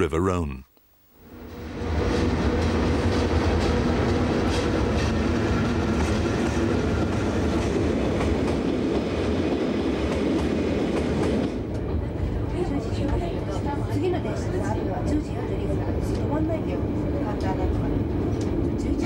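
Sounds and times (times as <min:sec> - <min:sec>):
electric train running past: 0:01.5 - 0:19.0.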